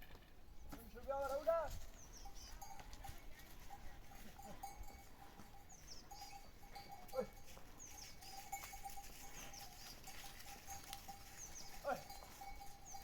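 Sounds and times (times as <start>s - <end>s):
livestock bells clinking: 0.6s - 13.0s.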